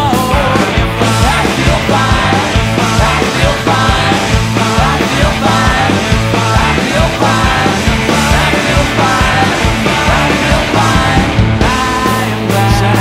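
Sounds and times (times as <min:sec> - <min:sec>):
bass guitar: 0:00.0 - 0:13.0
distorted electric guitars: 0:00.0 - 0:13.0
drums beating: 0:00.0 - 0:13.0.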